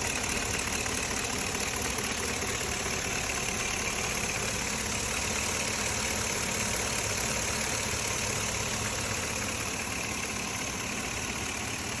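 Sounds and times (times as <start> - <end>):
engine idling: 0.0 - 12.0
engine ticking noise: 0.0 - 12.0.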